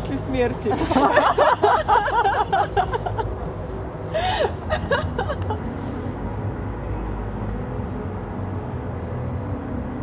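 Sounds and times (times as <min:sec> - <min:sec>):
distant city traffic rumble: 0:00.0 - 0:10.0.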